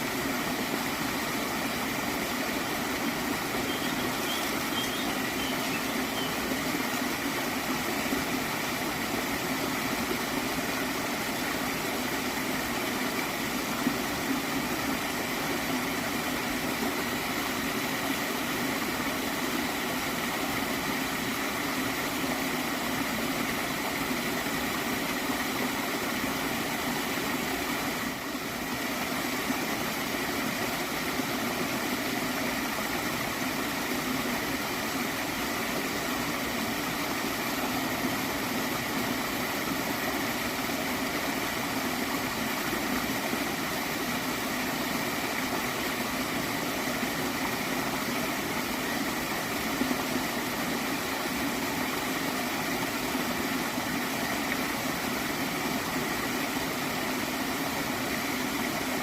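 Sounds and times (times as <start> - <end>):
stream flowing and gurgling: 0.0 - 59.0.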